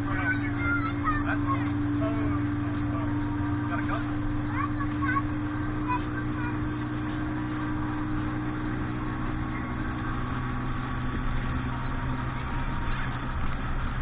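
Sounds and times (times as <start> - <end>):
motorboat engine humming: 0.0 - 14.0.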